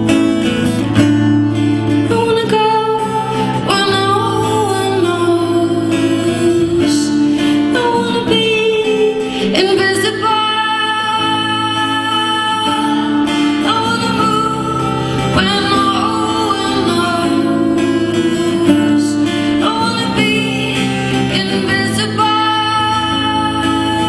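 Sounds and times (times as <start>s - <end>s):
strummed acoustic guitar: 0.0s - 24.0s
woman singing: 0.0s - 24.0s.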